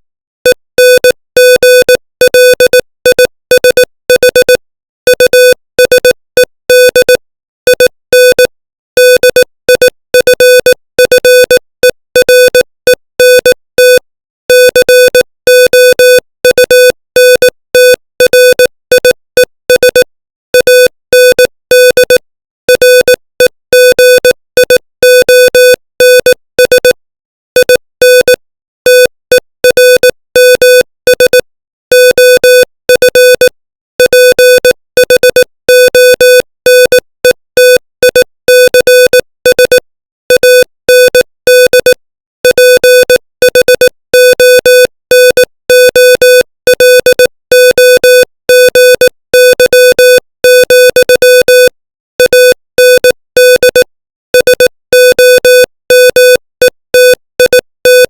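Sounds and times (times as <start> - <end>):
morse code beeps: 0.5 - 11.6, 12.2 - 23.2, 23.8 - 27.0, 27.6 - 58.0.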